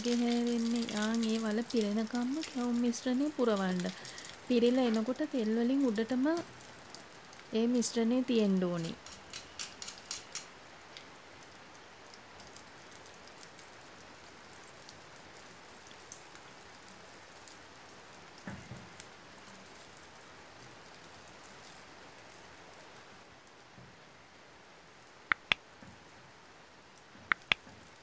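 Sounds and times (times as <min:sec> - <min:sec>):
batter deep-frying in oil: 0:00.0 - 0:28.0.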